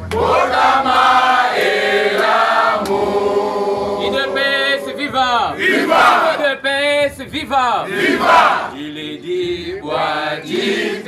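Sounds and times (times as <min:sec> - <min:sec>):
crowd singing a chant: 0:00.0 - 0:06.5, 0:07.8 - 0:11.0.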